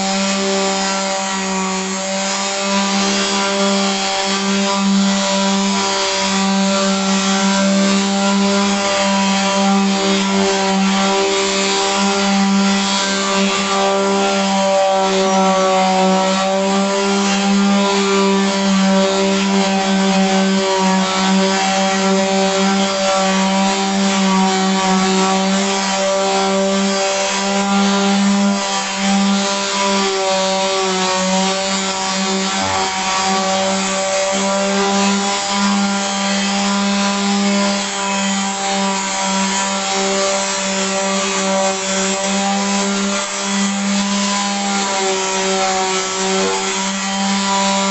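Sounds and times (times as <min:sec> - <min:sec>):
electric sander motor hum: 0:00.0 - 0:47.9.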